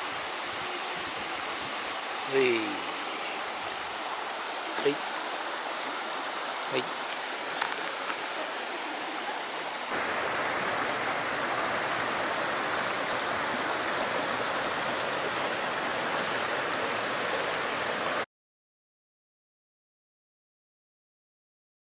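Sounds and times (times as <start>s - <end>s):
flowing water rushing: 0.0s - 18.3s.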